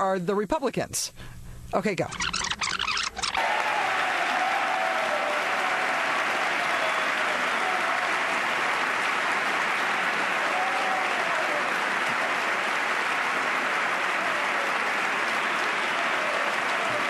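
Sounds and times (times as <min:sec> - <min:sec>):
crowd applause: 0:03.2 - 0:17.0.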